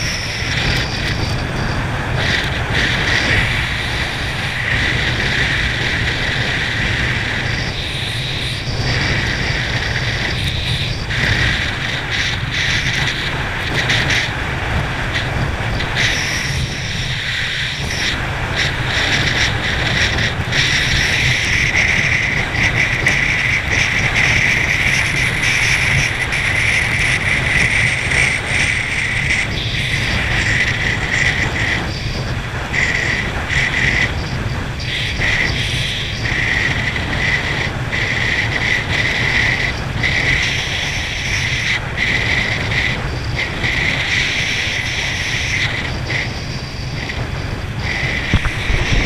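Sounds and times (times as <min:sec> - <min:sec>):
churning boat wake: 0:00.0 - 0:49.0
powerboat engine drone: 0:00.0 - 0:49.0
wind buffeting microphone: 0:00.0 - 0:49.0.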